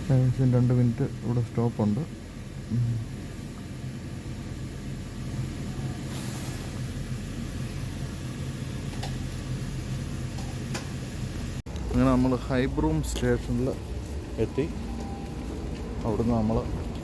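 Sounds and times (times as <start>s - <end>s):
train carriage hum: 0.0s - 17.0s.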